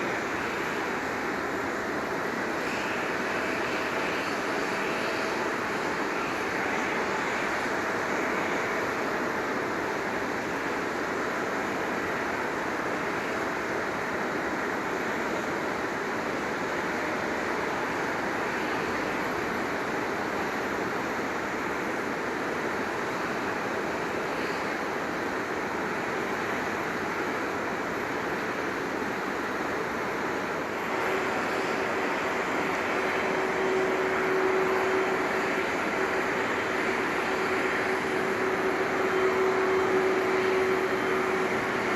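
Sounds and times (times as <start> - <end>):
jet engines rushing: 0.0 - 41.9.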